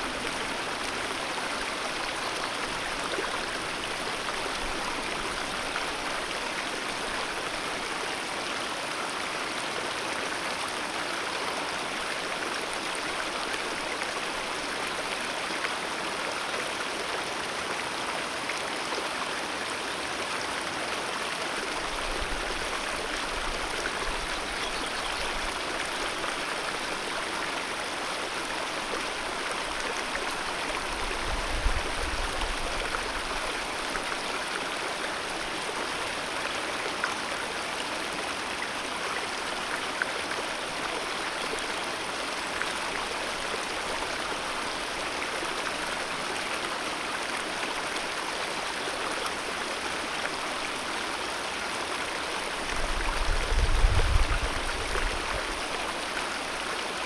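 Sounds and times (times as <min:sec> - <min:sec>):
mountain river flowing: 0:00.0 - 0:57.0.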